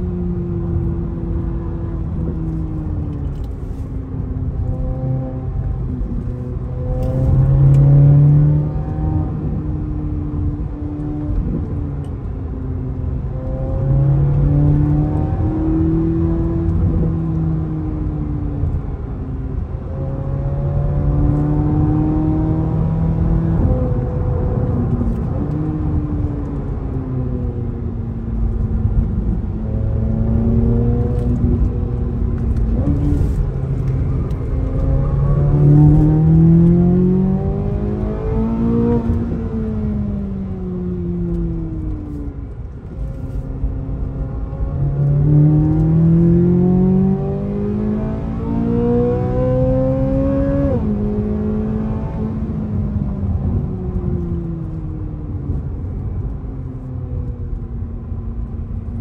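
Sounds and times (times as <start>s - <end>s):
car engine rising and falling: 0.0s - 59.0s
road and tyre noise: 0.0s - 59.0s.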